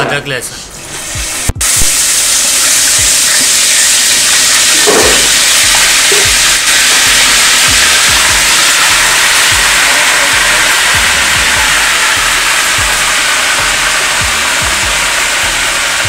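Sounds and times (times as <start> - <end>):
paste sizzling in hot oil: 1.0 - 16.0.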